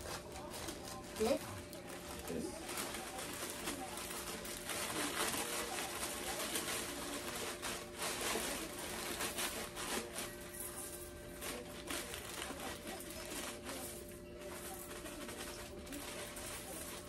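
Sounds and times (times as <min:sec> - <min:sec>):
cereal flakes rustling: 0:00.0 - 0:17.0
plastic bag crinkling: 0:00.0 - 0:17.0.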